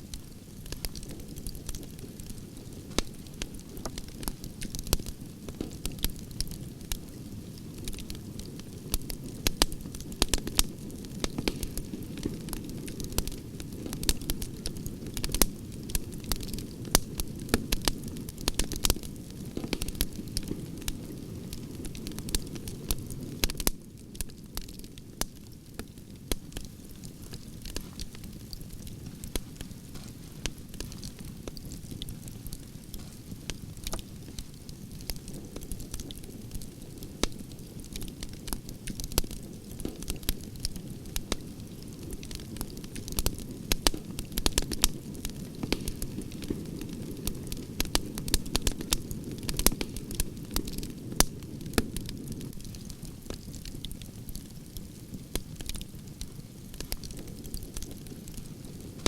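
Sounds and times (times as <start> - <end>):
campfire burning with crackles: 0.0 - 59.0.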